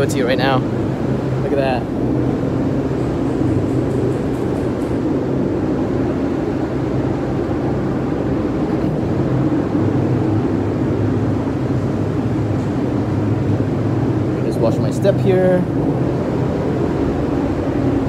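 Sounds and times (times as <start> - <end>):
ventilation fans running: 0.0 - 18.0.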